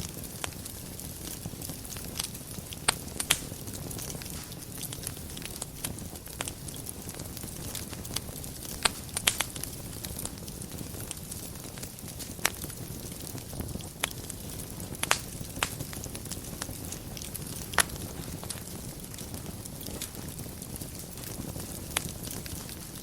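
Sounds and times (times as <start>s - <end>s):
fire crackles and pops: 0.0s - 23.0s
fire rumbling and hissing: 0.0s - 23.0s.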